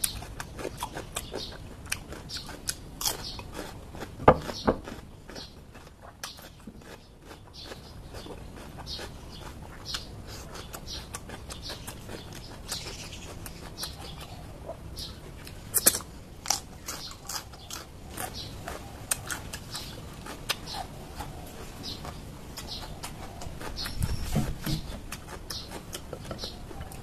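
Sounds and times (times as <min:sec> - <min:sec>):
person chewing crunchy vegetables: 0:00.0 - 0:27.0.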